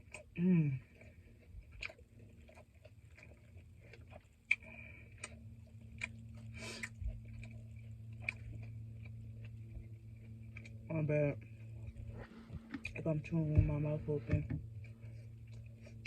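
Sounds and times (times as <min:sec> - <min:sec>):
open-mouth chewing smacks: 0:00.0 - 0:13.2, 0:14.6 - 0:16.0
steady low hum: 0:00.0 - 0:16.0.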